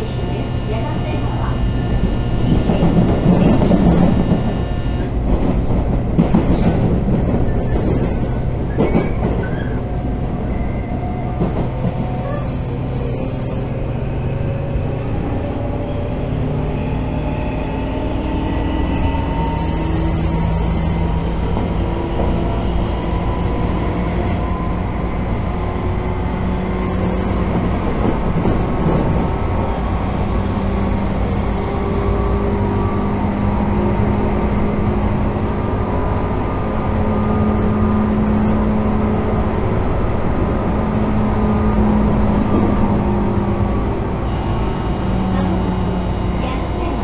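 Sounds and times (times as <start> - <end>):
running train rumble: 0.0 - 47.0.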